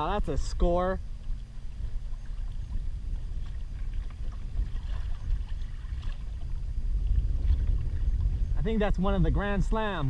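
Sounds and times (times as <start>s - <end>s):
water slapping against a kayak: 0.0s - 10.0s
wind buffeting: 0.0s - 10.0s.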